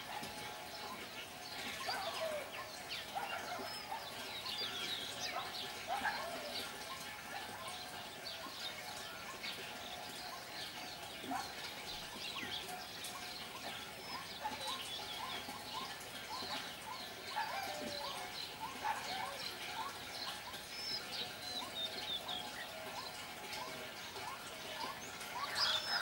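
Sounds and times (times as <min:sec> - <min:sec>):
small birds chirping: 0:00.0 - 0:26.0
waterhen calling: 0:00.0 - 0:26.0.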